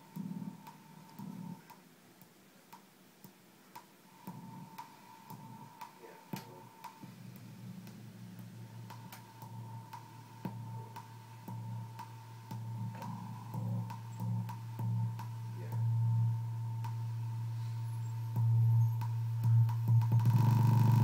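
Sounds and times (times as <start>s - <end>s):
low pulsing electronic drone: 0.0s - 1.6s, 4.2s - 21.0s.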